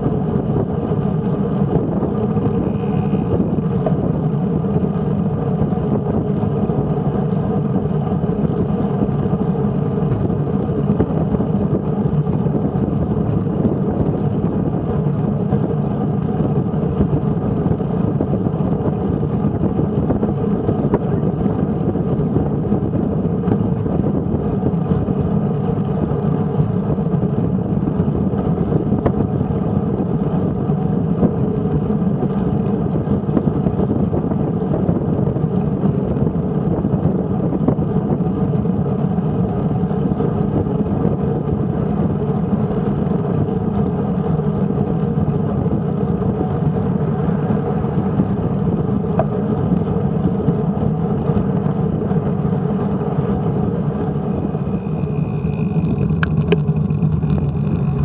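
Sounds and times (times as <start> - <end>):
bicycle tyres on road: 0.0 - 58.0
wind rush: 0.0 - 58.0.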